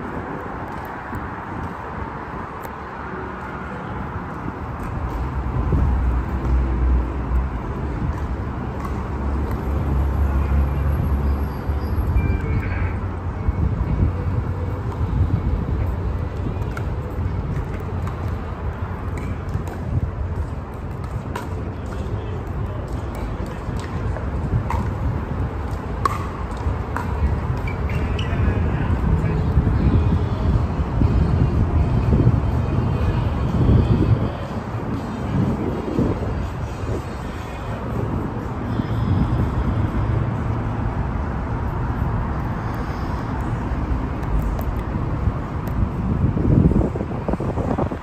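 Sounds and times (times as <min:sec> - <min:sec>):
road traffic noise: 0:00.0 - 0:48.0
wind: 0:00.0 - 0:48.0.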